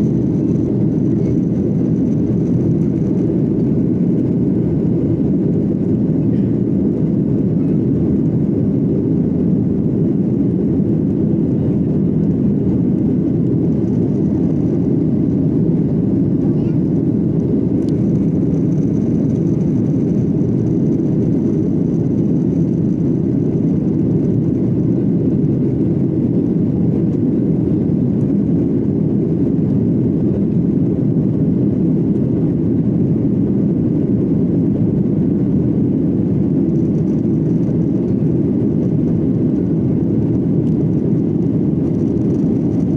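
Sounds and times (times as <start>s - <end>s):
jet engines roaring: 0.0s - 42.9s.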